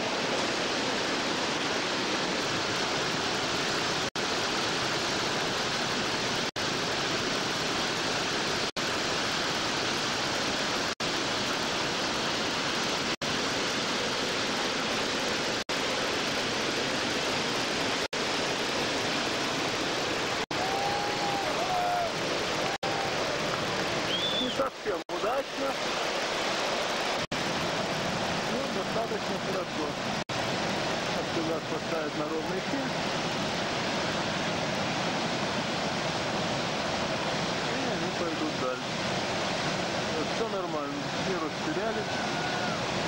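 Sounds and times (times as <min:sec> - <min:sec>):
whitewater rushing: 0:00.0 - 0:43.0.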